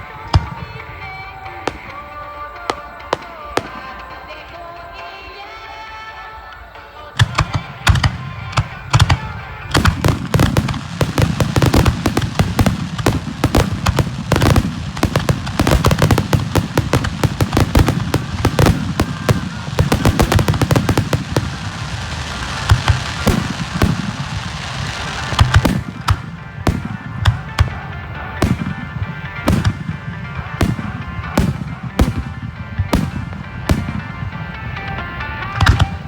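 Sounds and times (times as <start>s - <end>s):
fireworks bursting: 0.0s - 36.0s
music: 0.0s - 36.0s.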